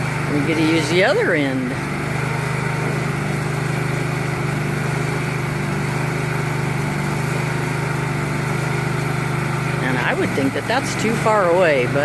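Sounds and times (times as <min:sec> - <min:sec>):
backhoe engine idling: 0:00.0 - 0:12.0.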